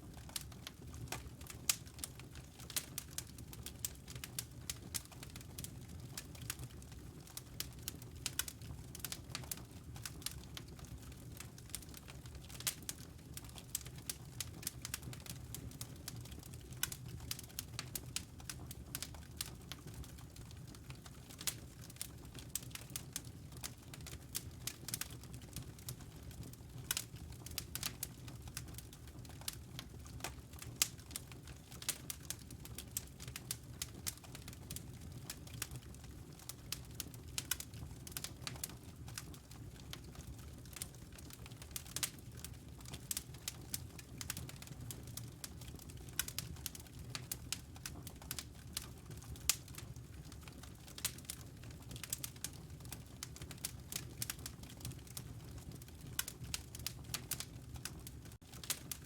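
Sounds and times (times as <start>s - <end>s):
fire crackling and popping: 0.0s - 59.0s
low rumble of burning: 0.0s - 59.0s.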